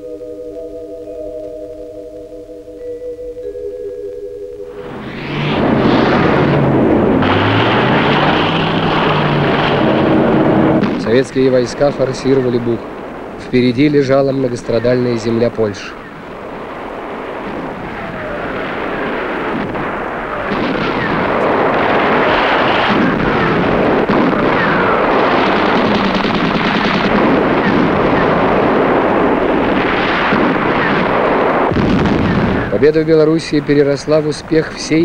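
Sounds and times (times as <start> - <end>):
gunfire: 4.8 - 32.9
shell explosions: 4.8 - 34.5.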